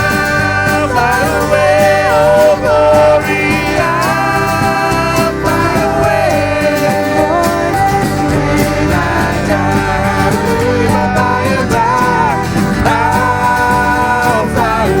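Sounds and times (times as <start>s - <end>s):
guitar playing: 0.0s - 15.0s
people singing: 0.0s - 15.0s.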